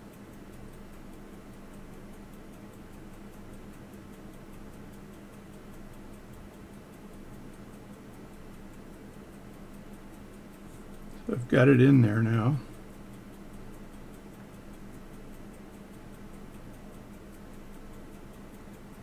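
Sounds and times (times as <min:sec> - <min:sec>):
faint low hum: 0:00.0 - 0:19.0
mechanical watch ticking: 0:00.0 - 0:19.0.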